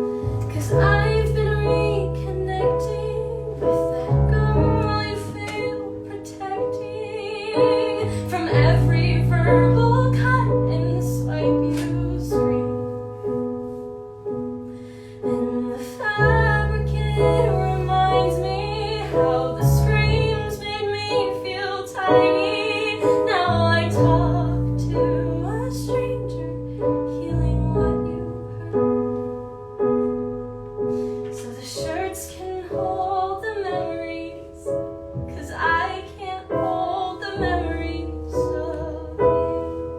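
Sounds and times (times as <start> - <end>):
woman singing classical song: 0.0 - 30.0, 30.8 - 39.9
piano chords: 0.0 - 39.9.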